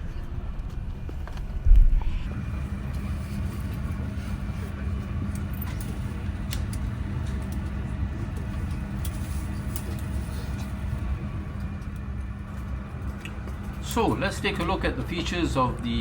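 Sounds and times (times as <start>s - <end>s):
aircraft cabin hum and air rush: 0.0s - 16.0s.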